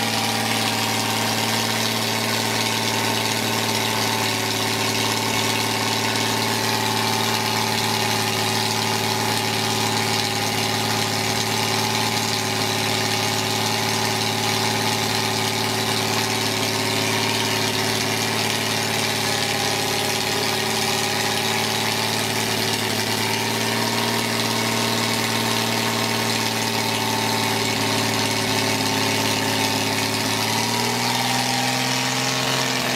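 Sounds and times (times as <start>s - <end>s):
car engine running: 0.0s - 32.9s.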